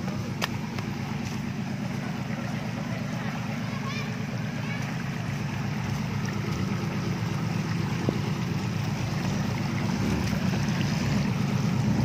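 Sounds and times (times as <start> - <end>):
jeep engine running at low revs: 0.0 - 12.0.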